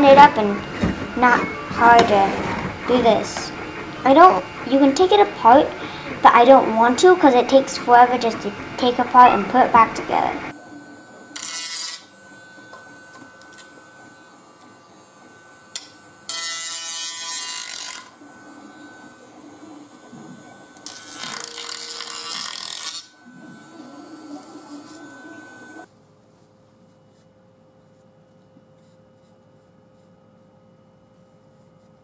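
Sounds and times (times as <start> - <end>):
rotary tool whining: 0.0 - 25.9.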